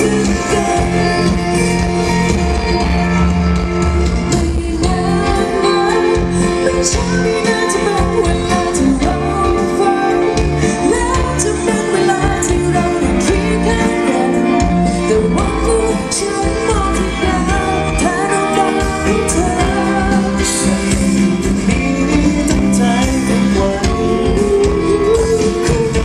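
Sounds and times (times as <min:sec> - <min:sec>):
person singing: 0:00.0 - 0:02.9, 0:04.1 - 0:26.0
backing band playing pop music: 0:00.0 - 0:26.0.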